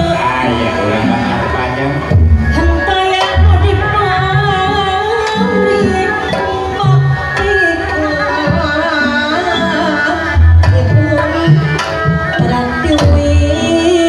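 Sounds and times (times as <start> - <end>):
gamelan ensemble: 0.0 - 14.0
hand drums: 1.0 - 14.0.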